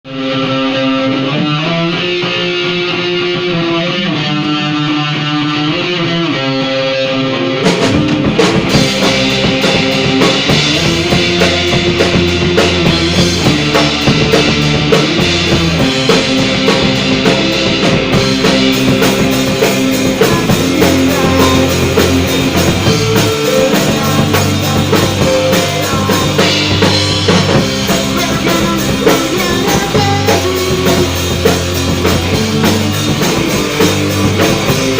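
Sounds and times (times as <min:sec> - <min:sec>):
drums: 0:00.1 - 0:34.9
guitar playing: 0:00.1 - 0:34.9
rock band playing: 0:00.1 - 0:34.9.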